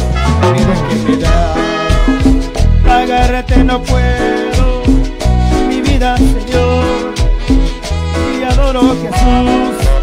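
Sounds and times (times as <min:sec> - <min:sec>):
live band worship music: 0:00.0 - 0:10.0.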